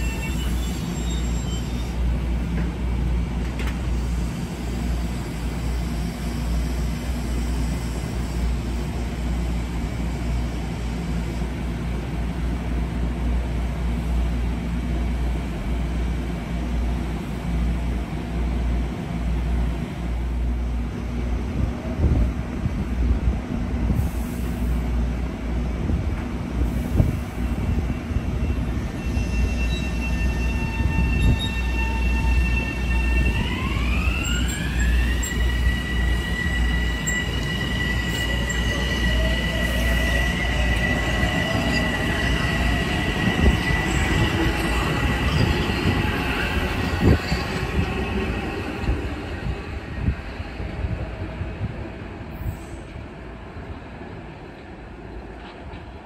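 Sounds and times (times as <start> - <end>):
train high whine: 0.0 - 56.0
train low rumble: 0.0 - 56.0.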